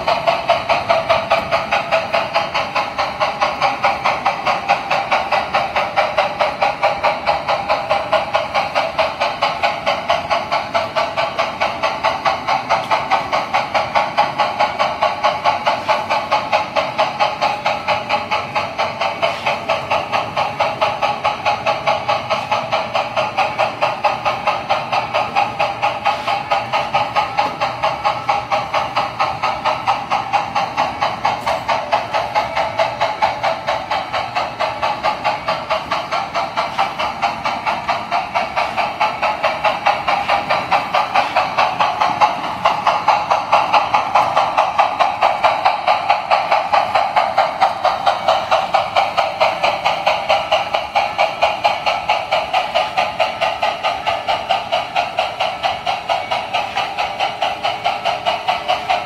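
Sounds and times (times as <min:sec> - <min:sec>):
model steam locomotive chuffing: 0:00.0 - 0:59.0
wheels rolling on track: 0:00.0 - 0:59.0.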